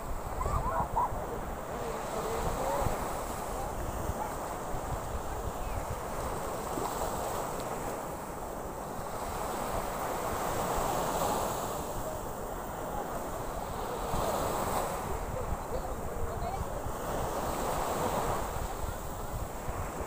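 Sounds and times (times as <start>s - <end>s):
sea surf washing onto shore: 0.0s - 20.0s
wind buffeting microphone: 0.0s - 20.0s.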